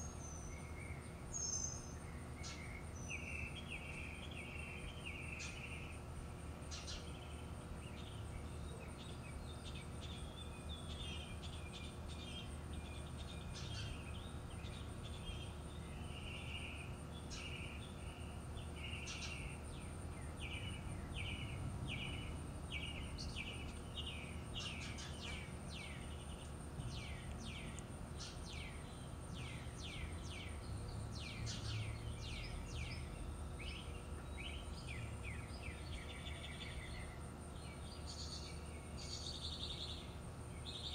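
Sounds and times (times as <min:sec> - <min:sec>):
birds chirping: 0:00.0 - 0:40.9
low background hum: 0:00.0 - 0:40.9.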